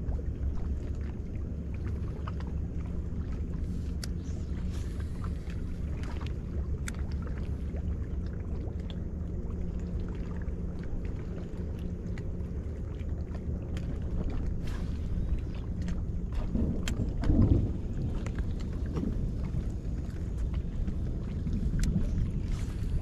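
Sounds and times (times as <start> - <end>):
boat engine rumble: 0.0 - 23.0.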